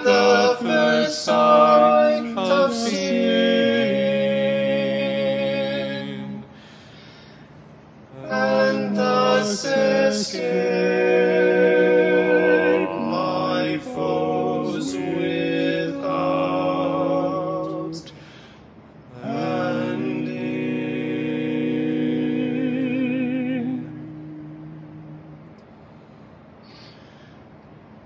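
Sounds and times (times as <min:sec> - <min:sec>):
male vocal quartet singing hymn: 0:00.0 - 0:06.8, 0:08.1 - 0:18.4, 0:19.1 - 0:25.0.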